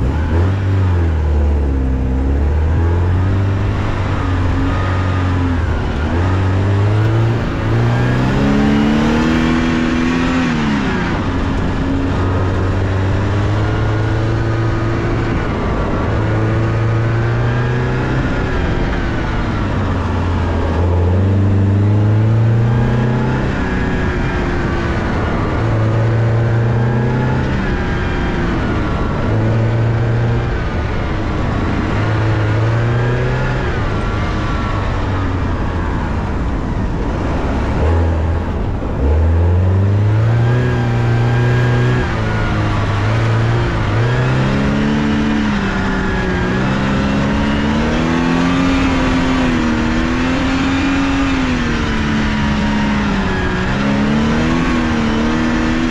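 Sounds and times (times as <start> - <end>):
car engine revving through gears: 0.0 - 55.9.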